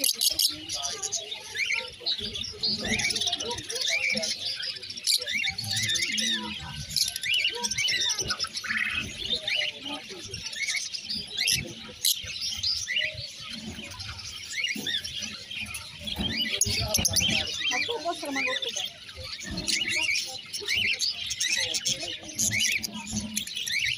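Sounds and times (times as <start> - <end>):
lovebirds chirping and squeaking: 0.0 - 23.9.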